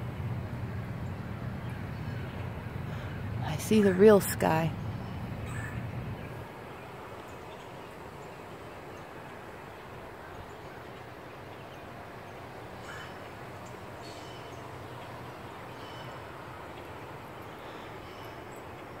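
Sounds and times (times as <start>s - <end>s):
birds calling: 0.0s - 19.0s
outdoor background noise: 0.0s - 19.0s.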